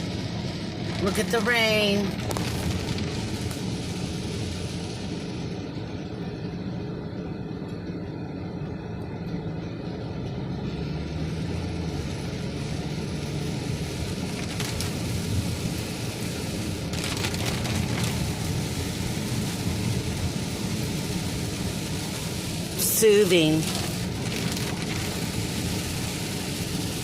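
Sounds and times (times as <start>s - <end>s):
heavy rain drumming on car: 0.0s - 6.8s, 11.0s - 27.0s
car engine humming: 0.0s - 27.0s.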